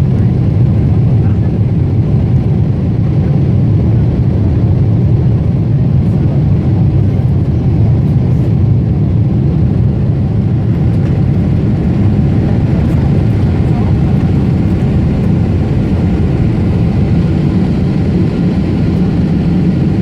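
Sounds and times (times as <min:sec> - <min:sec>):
airliner cabin engine roar: 0:00.0 - 0:20.0.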